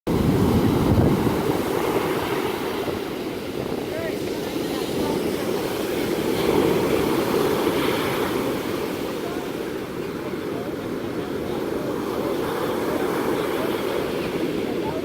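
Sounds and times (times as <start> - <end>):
ocean waves washing in: 0.1 - 15.0.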